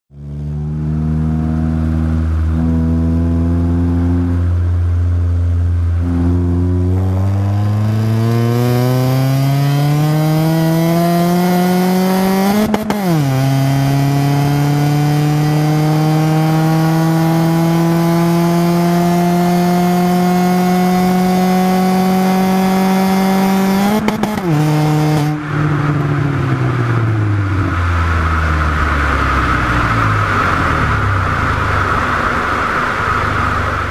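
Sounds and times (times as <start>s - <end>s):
car engine revving to limiter: 0.1s - 33.9s
road and wind noise: 0.1s - 33.9s.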